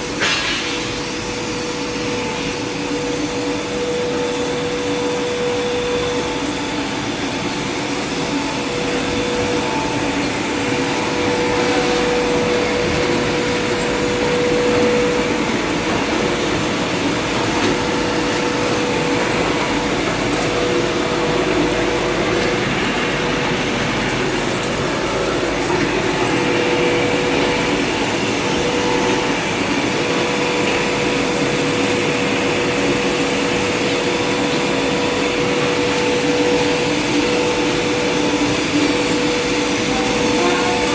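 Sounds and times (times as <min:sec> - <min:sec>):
industrial machinery rushing and humming: 0:00.0 - 0:40.9.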